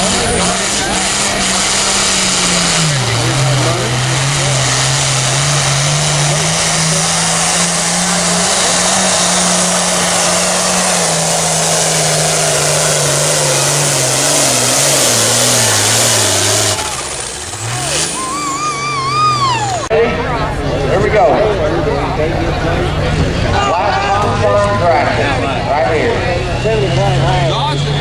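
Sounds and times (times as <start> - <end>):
tractor engine at full throttle: 0.0 - 28.0.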